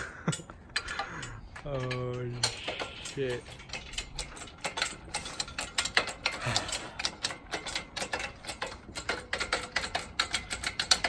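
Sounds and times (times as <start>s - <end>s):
engine hoist chain clicking and rattling: 0.0s - 11.0s.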